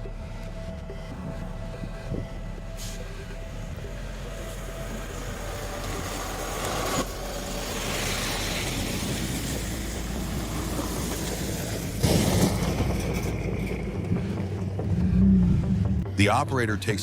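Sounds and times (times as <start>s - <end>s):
heavy vehicle engine running: 0.0s - 16.3s.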